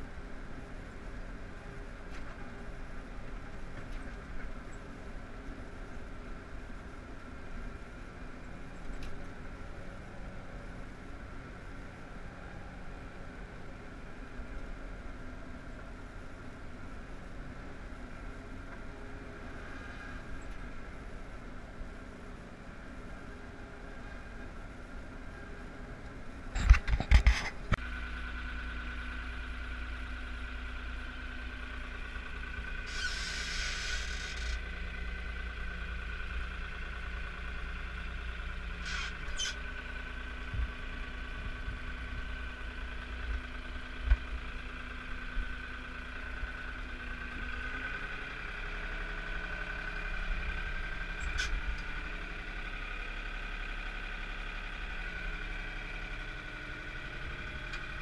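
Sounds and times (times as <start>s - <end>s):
machine engine drone and whine: 0.0s - 58.0s.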